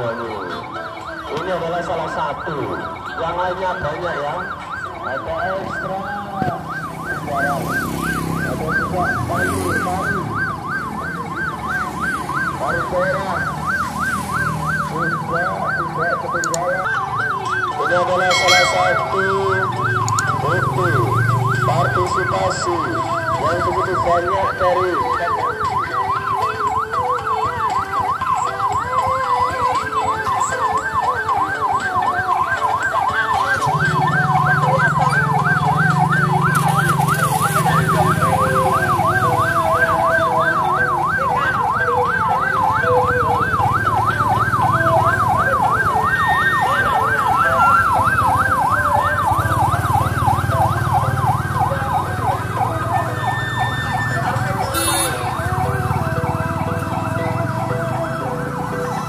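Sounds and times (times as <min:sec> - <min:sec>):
warbling police siren: 0:00.0 - 0:59.0
vehicle engines running: 0:02.3 - 0:59.0.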